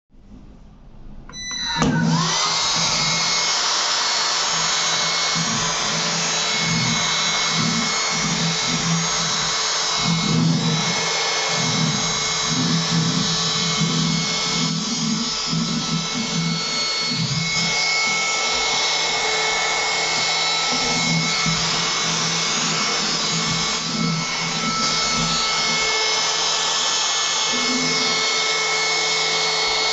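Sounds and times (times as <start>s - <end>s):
handheld vacuum motor whine: 1.3s - 29.9s
low hum of nozzle on surface: 2.1s - 29.9s.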